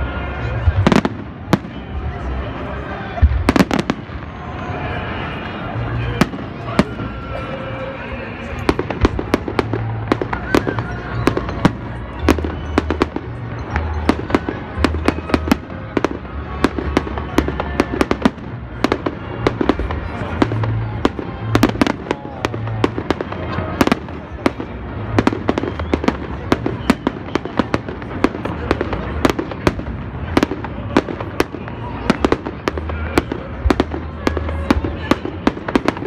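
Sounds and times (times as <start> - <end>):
fireworks bursting: 0.4 - 2.4, 3.0 - 7.4, 8.5 - 36.0.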